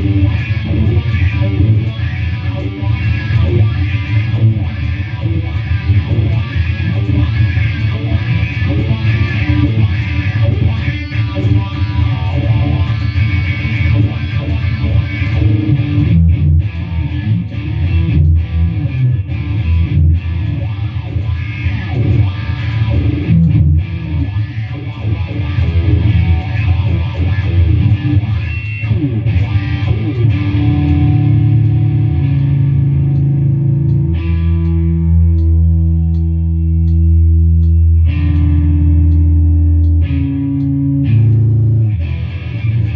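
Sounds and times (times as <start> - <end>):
electric guitar riffing: 0.0 - 42.9.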